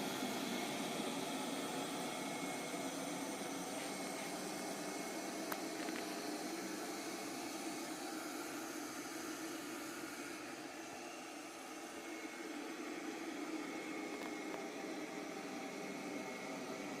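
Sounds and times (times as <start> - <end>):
robot vacuum cleaner whirring: 0.0 - 17.0.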